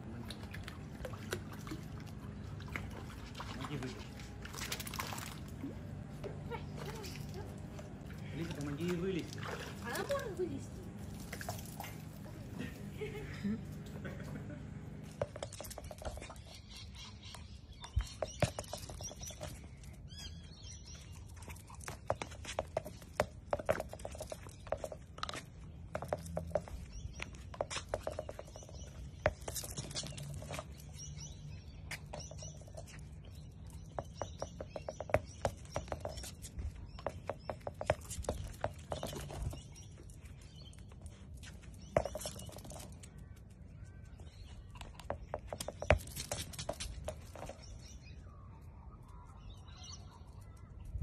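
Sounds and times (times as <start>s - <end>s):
birds chirping: 0.0s - 51.0s
claws and ball tapping on concrete: 0.0s - 51.0s.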